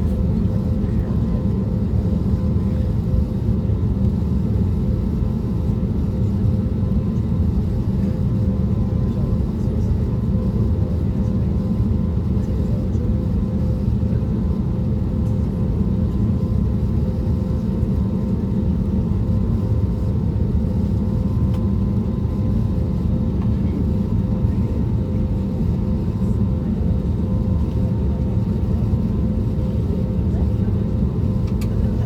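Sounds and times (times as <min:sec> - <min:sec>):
airplane cabin engine rumble: 0:00.0 - 0:32.0.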